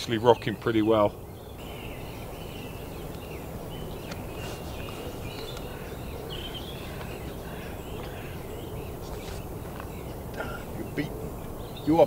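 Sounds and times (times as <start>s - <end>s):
birds chirping and warbling: 0.0s - 12.0s
low background noise: 0.0s - 12.0s.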